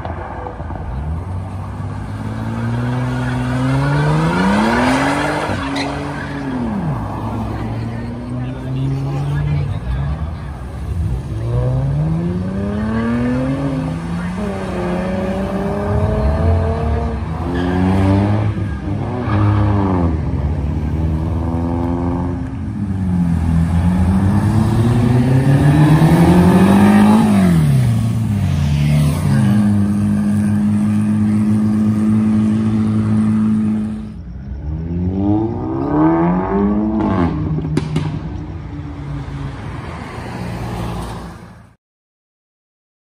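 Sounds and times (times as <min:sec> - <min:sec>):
car engine revving: 0:01.3 - 0:40.8.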